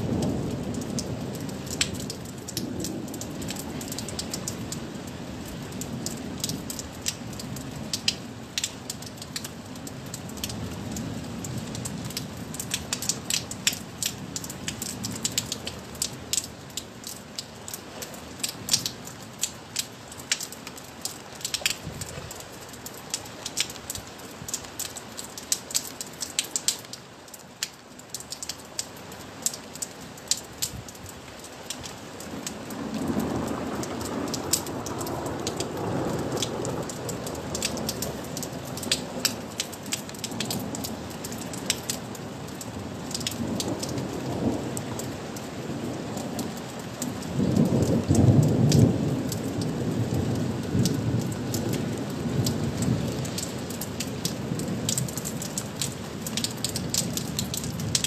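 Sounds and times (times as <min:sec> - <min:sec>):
raindrop taps: 0:00.0 - 0:04.8, 0:05.4 - 0:45.5, 0:46.2 - 0:58.0
steady rain: 0:00.0 - 0:58.0.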